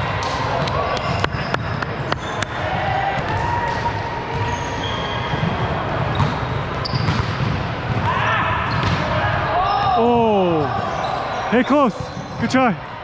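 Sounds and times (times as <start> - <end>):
echoing hall background: 0.0 - 13.0
volleyball strikes: 0.1 - 11.1.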